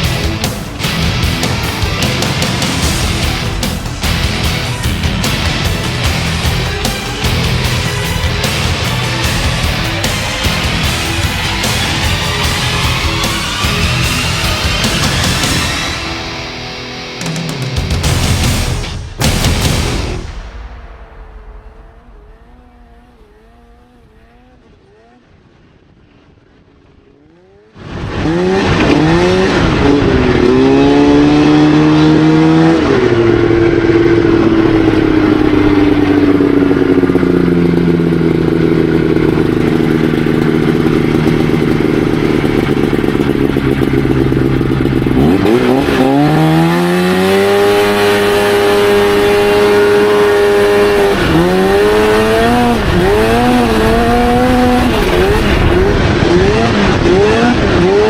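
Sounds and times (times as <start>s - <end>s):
buggy engine revving: 0.0s - 20.0s, 22.3s - 58.0s.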